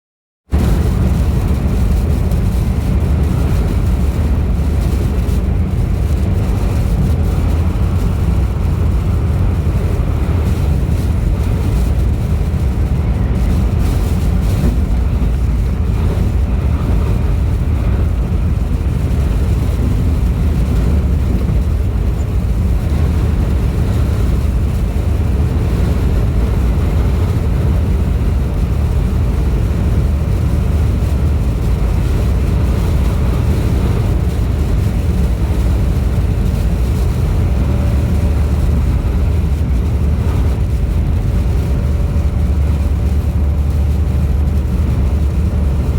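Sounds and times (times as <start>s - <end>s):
wind buffeting microphone: 0.5s - 45.9s.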